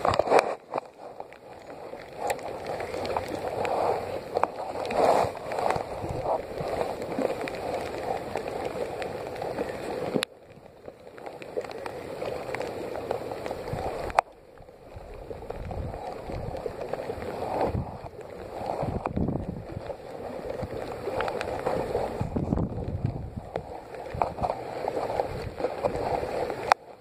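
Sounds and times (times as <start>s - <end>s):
water lapping against kayak hull: 0.0s - 27.0s.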